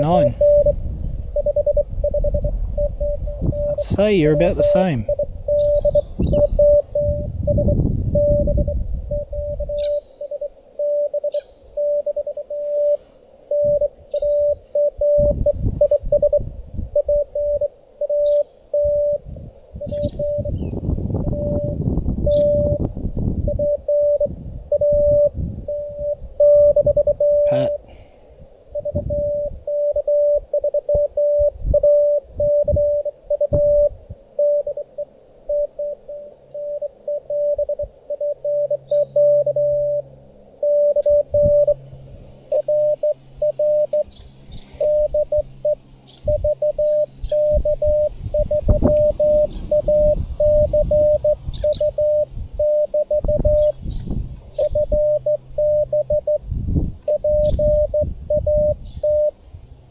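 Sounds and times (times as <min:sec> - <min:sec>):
morse code tone: 0:00.0 - 0:27.9, 0:28.8 - 0:41.8, 0:42.5 - 0:44.1, 0:44.8 - 0:53.8, 0:54.6 - 0:56.4, 0:57.1 - 0:59.4
low hum: 0:00.0 - 0:59.9.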